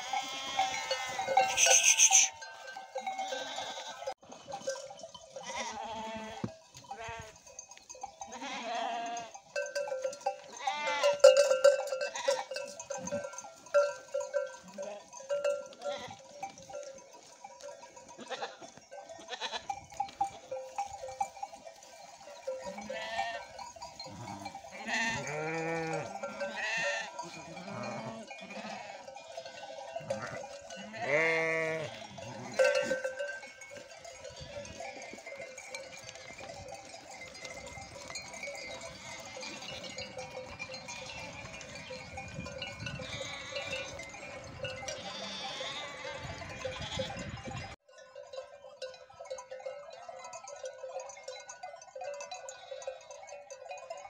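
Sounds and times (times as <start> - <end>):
animal bells ringing: 0.0 - 54.0
sheep and goats bleating: 0.0 - 54.0.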